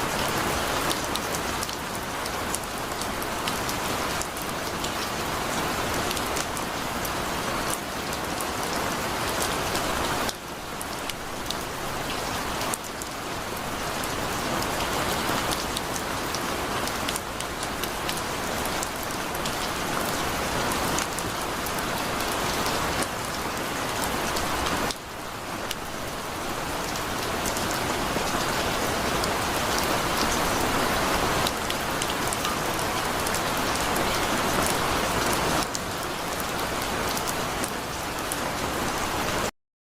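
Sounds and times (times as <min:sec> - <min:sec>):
heavy rain pouring: 0:00.0 - 0:39.5.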